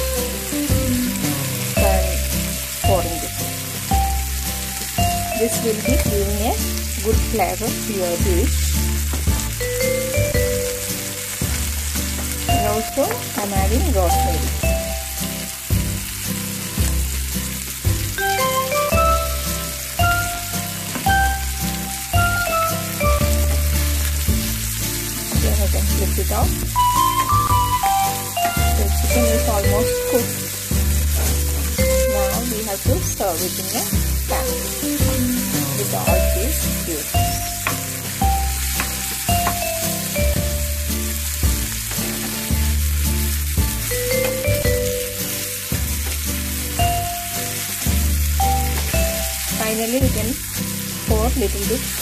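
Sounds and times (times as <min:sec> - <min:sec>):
background music with deep bass: 0:00.0 - 0:51.6
chicken sizzling in a frying pan: 0:00.0 - 0:52.0
spatula turning food in a pan: 0:00.0 - 0:52.0.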